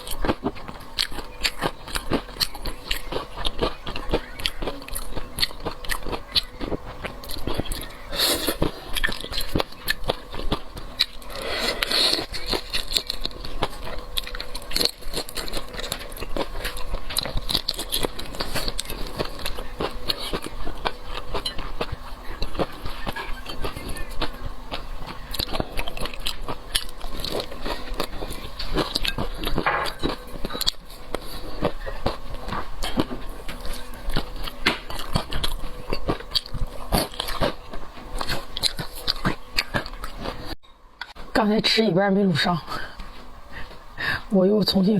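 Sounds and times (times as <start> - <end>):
wet chewing and biting: 0.0 - 41.2.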